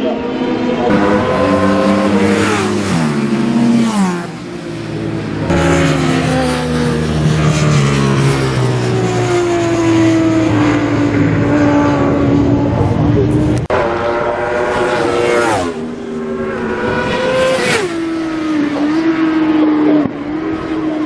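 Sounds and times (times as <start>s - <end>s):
racing motorcycles passing: 0.0s - 21.0s.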